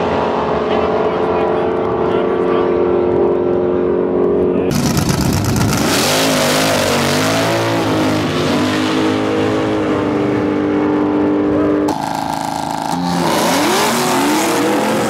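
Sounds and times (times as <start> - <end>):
drag cars accelerating: 0.0 - 15.0.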